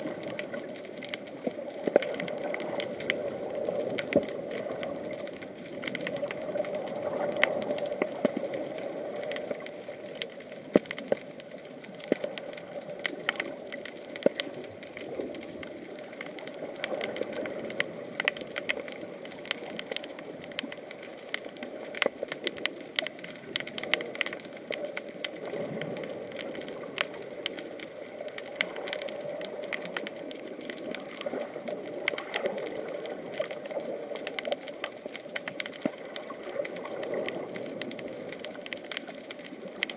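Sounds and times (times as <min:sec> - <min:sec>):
sharp clicks and crackles: 0:00.0 - 0:39.9
steady low underwater hum: 0:00.0 - 0:39.9.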